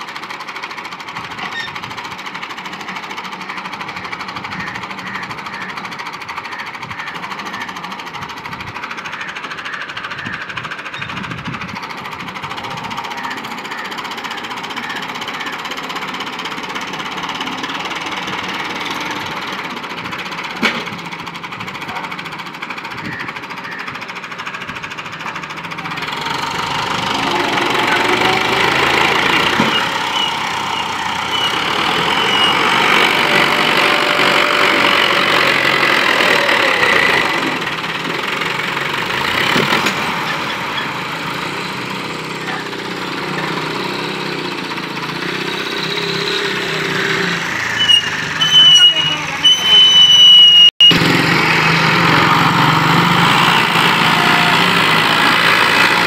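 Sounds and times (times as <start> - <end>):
tractor diesel engine knocking: 0.0 - 49.6.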